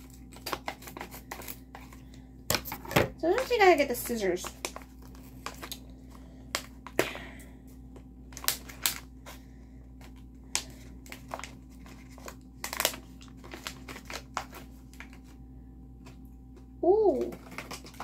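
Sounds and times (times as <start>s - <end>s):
plastic crinkling and rustling: 0.0s - 7.1s, 7.9s - 15.4s, 17.1s - 18.0s.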